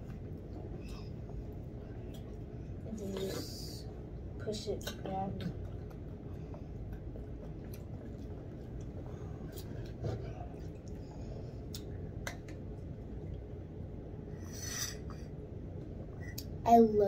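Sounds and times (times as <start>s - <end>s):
eating and food handling: 0.0s - 14.2s
low background hum: 0.0s - 17.0s.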